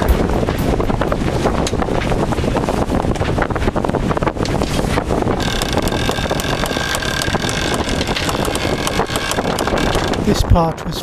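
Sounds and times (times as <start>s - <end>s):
water rushing along hull: 0.0s - 10.6s
wind buffeting microphone: 0.0s - 11.0s.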